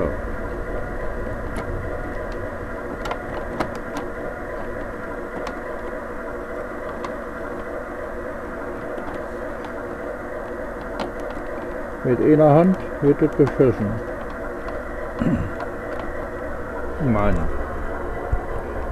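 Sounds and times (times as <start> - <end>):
model train electric whir: 0.0 - 18.9.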